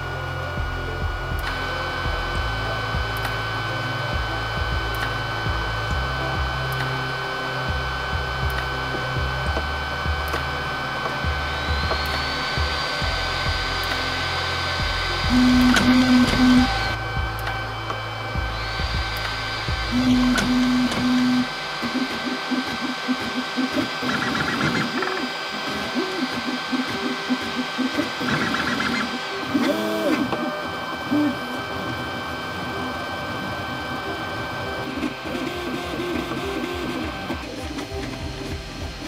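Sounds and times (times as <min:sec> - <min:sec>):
high whine: 0:00.0 - 0:39.0
short low buzzes: 0:00.0 - 0:39.0
stepper motors whirring: 0:00.0 - 0:39.0.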